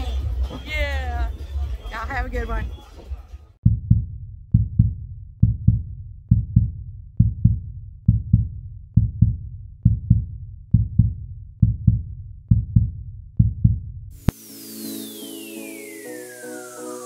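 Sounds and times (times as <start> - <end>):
heartbeat-like double thump music: 0.0 - 14.4.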